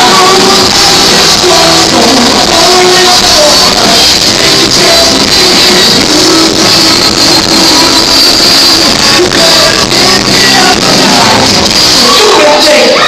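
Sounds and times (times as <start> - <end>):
live rock band: 0.0 - 13.0
person singing: 0.0 - 13.0.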